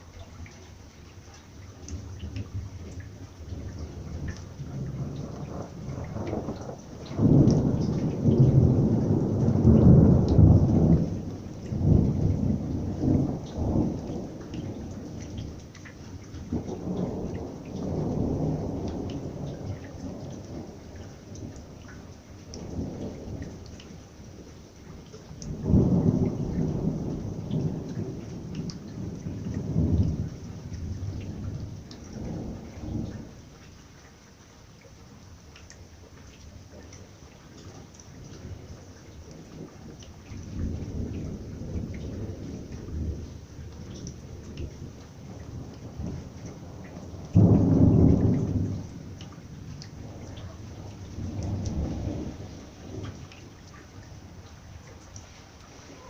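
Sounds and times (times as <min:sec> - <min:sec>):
steady rain: 0:00.0 - 0:56.0
thunder rumbling: 0:01.9 - 0:23.8, 0:25.3 - 0:33.4, 0:38.2 - 0:54.8.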